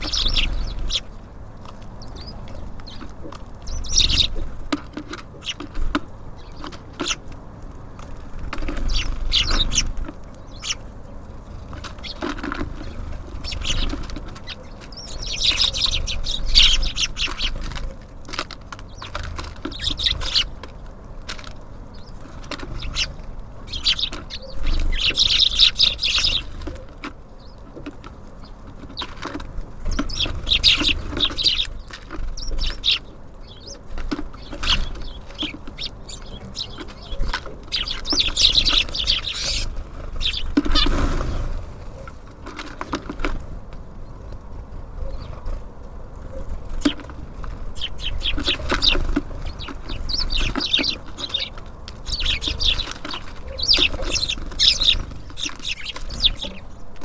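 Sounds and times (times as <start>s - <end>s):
pecking and wing-flutter taps: 0.0s - 10.8s, 11.6s - 41.1s, 46.7s - 57.0s
small birds chirping: 0.0s - 57.0s.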